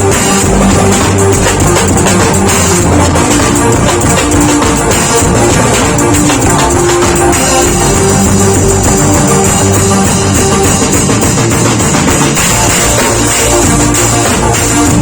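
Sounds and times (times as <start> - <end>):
band backing track: 0.0 - 15.0
drum kit playing: 0.0 - 15.0.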